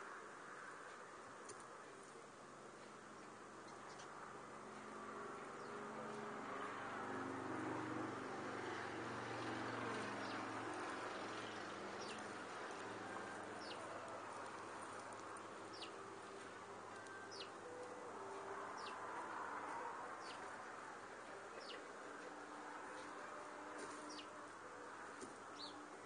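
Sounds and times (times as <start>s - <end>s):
steady low hum and hiss: 0.0s - 26.0s.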